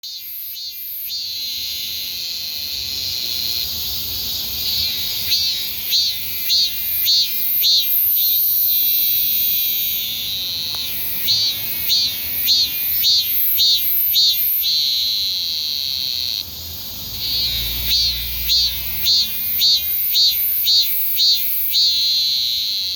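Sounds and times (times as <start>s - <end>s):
cicadas singing: 0.0s - 22.9s.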